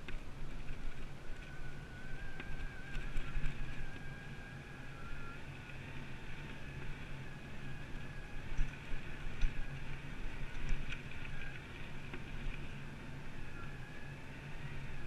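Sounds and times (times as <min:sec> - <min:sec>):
bike knocking and rattling: 0:00.0 - 0:15.0
bike tyres rumbling on trail: 0:00.0 - 0:15.0
constant high hum: 0:00.0 - 0:15.0
wind on microphone: 0:00.0 - 0:15.0.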